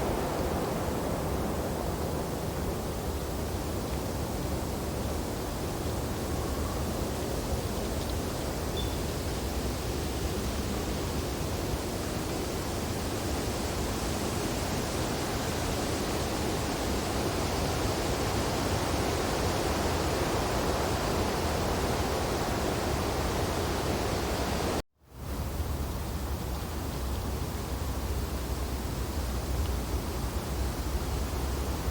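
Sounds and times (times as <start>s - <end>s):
wind through tree branches: 0.0s - 31.9s.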